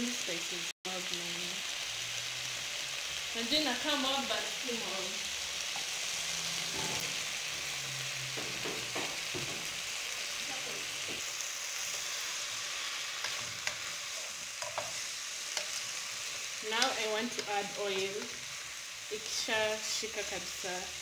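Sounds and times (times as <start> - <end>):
chicken sizzling in a pot: 0.0 - 21.0.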